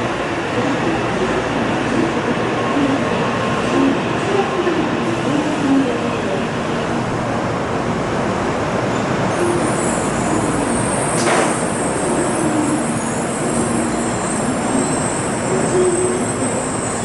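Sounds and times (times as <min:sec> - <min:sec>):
train rushing noise: 0:00.0 - 0:17.0.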